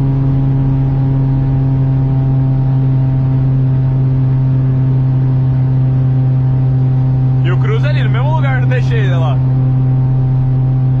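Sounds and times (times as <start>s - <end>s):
car engine drone at high speed: 0.0s - 11.0s.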